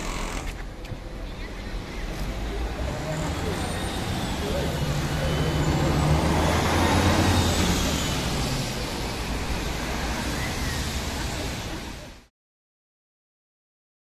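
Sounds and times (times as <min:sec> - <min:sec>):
traffic noise: 0:00.0 - 0:12.3
vehicle engine hum: 0:00.0 - 0:12.3.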